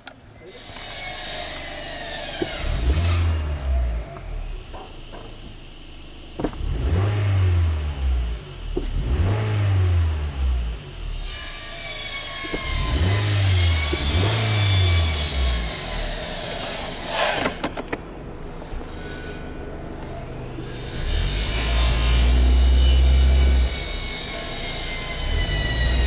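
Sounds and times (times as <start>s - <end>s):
engine misfiring: 0.2s - 26.0s
car engine revving: 0.6s - 26.0s.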